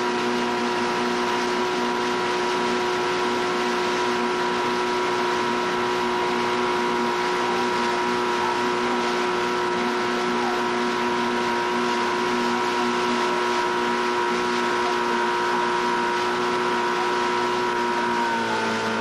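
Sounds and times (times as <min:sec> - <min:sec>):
outboard motor droning: 0:00.0 - 0:19.0.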